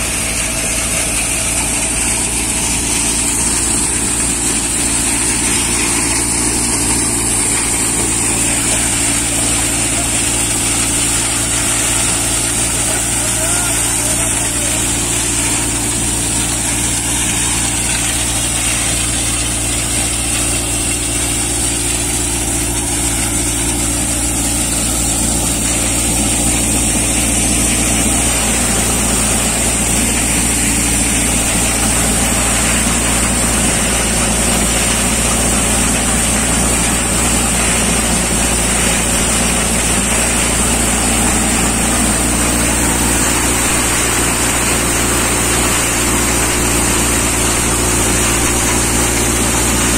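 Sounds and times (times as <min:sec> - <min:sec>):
thresher drum and blower: 0:00.0 - 0:49.9
tractor engine hum: 0:00.0 - 0:49.9.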